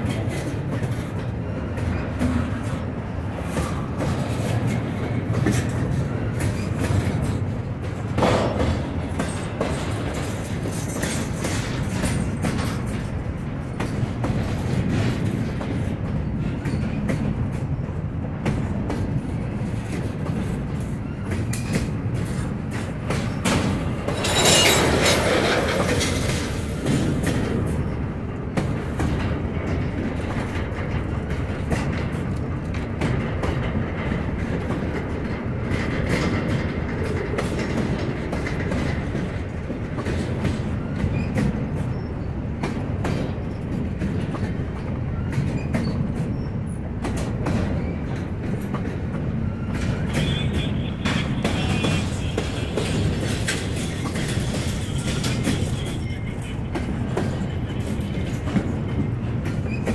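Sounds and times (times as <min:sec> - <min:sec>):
train wheels clicking over rail joints: 0:00.0 - 0:59.9.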